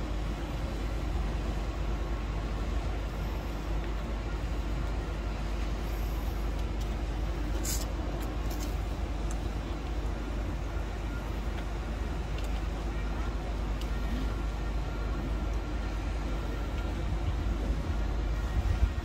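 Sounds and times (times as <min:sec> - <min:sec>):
low rumble of outdoor crowd: 0:00.0 - 0:19.0.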